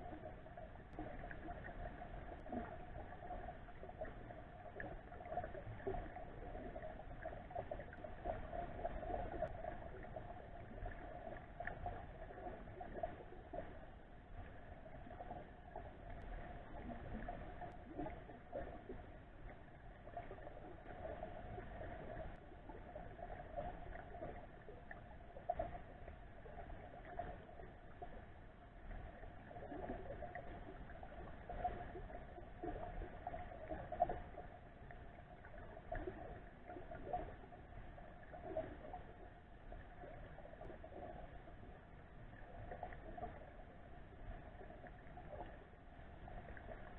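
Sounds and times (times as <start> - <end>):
muffled underwater river flow: 0.0 - 46.9.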